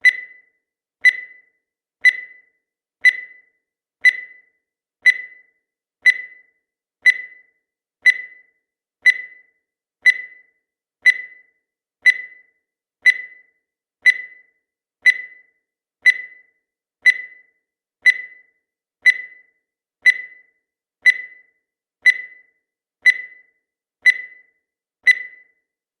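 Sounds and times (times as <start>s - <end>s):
countdown timer beeps: 0.0s - 25.7s.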